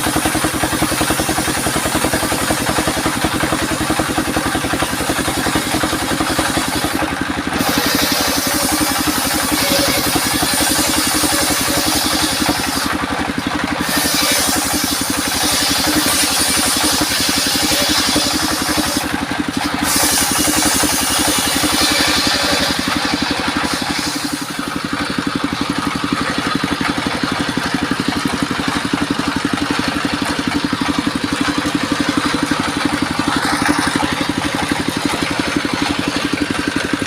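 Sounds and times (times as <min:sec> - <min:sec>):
circular saw cutting wood: 0:00.0 - 0:37.0
engine running: 0:00.0 - 0:37.0.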